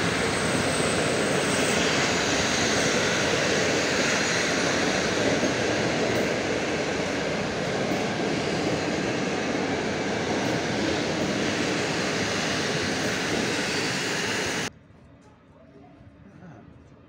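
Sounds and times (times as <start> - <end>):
train coaches rolling past: 0.0 - 14.7.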